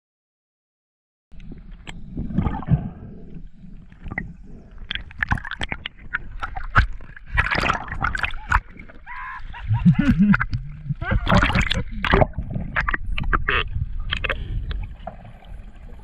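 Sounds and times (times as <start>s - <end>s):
water swirling and bubbling: 1.3s - 16.0s.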